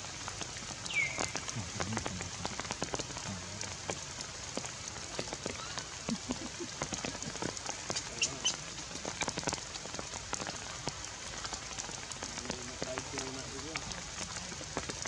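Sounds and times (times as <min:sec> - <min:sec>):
rain drops ticking: 0:00.0 - 0:15.0.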